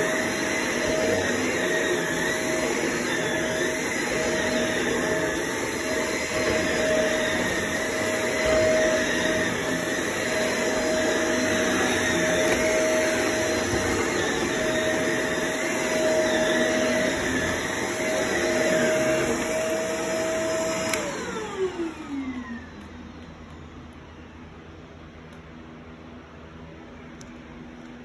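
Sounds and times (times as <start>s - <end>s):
vacuum cleaner running on carpet: 0.0s - 23.0s.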